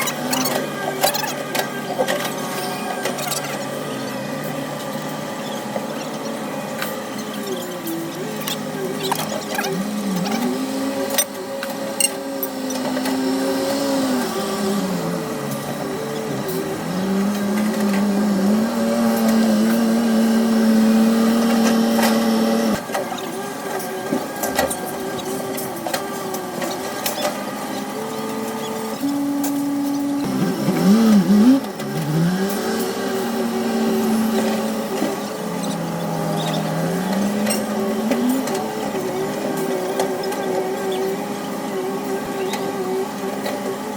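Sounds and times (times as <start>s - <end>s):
excavator diesel engine under load: 0.0s - 43.9s
hydraulics working: 0.0s - 43.9s.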